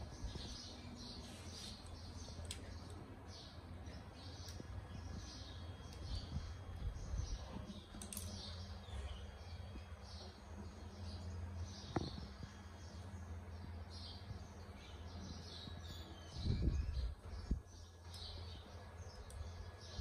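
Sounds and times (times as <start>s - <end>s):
low steady hum: 0.0s - 20.0s
small birds chirping: 0.0s - 20.0s.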